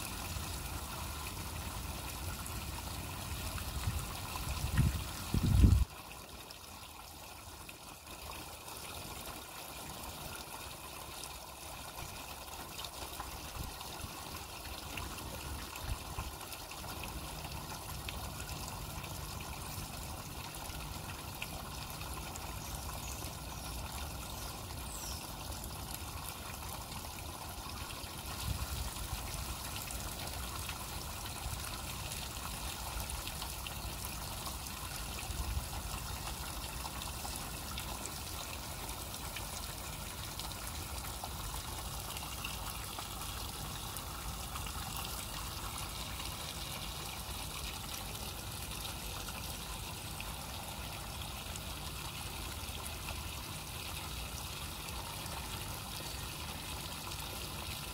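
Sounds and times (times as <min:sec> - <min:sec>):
stream trickling over rocks: 0:00.0 - 0:57.9.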